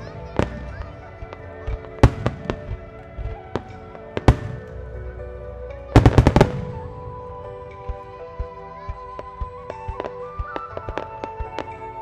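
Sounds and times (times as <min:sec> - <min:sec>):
music with long held notes: 0:00.0 - 0:12.0.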